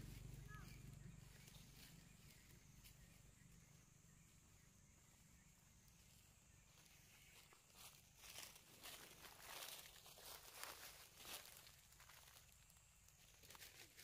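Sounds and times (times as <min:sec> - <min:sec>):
faint low rumble: 0:00.0 - 0:14.0.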